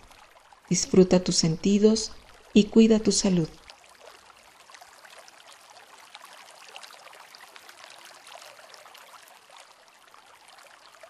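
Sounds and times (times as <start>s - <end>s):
soft rain patter: 0.0s - 11.0s.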